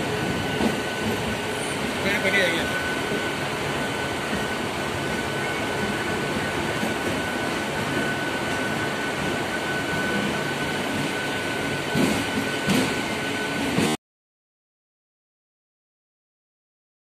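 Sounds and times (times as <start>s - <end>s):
high-pitched train whine: 0.0s - 14.0s
train wheels rumbling on track: 0.0s - 14.0s.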